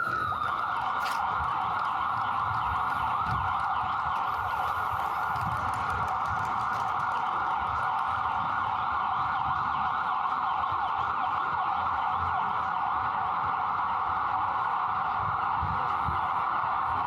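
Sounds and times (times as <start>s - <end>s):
emergency vehicle siren: 0.0s - 17.0s
low street rumble: 0.0s - 17.0s.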